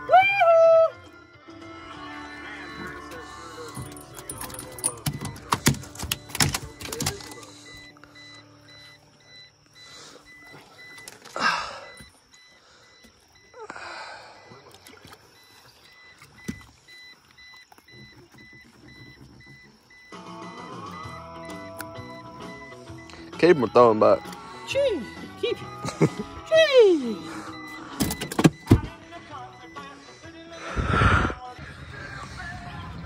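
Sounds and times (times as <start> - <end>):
faint electronic beep: 2.1 - 33.0.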